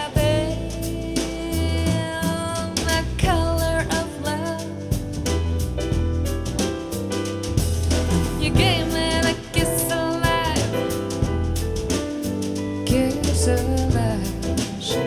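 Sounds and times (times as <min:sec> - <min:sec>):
person singing jazz: 0:00.0 - 0:05.3, 0:08.1 - 0:15.0
bass: 0:00.0 - 0:15.0
drum kit: 0:00.0 - 0:15.0.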